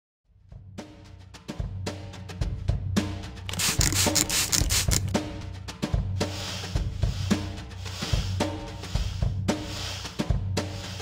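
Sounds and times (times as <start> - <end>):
music with bass and drums: 0.3 - 11.0.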